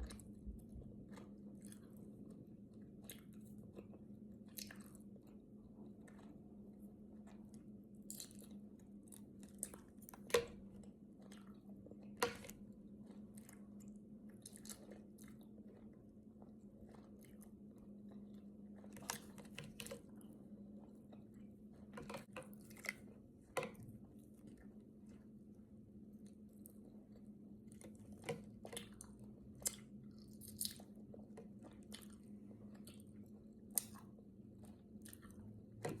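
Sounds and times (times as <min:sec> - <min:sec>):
faint low hum: 0:00.0 - 0:36.0
wet chewing and crunching: 0:00.0 - 0:36.0.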